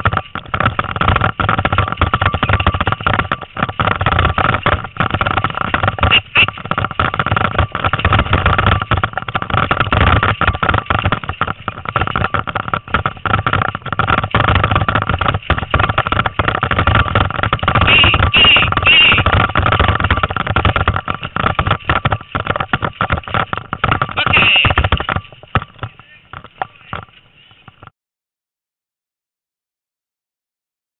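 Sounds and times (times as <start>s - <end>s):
bicycle rattling on dirt trail: 0.0s - 27.9s.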